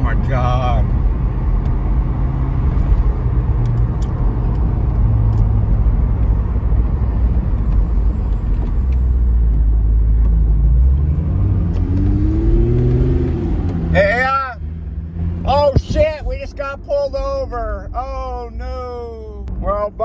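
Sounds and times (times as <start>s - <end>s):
car engine rumble from cabin: 0.0s - 20.0s.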